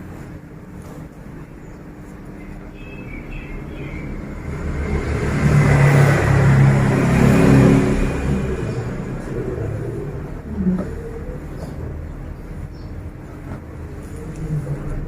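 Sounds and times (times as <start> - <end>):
vehicle engine driving past: 2.4 - 15.0.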